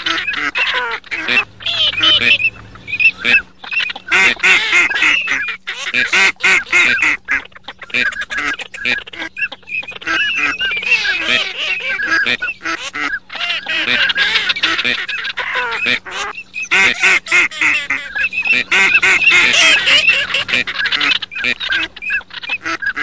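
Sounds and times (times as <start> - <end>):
faint steady hum: 0.0 - 23.0
flock of ducks calling: 0.0 - 23.0.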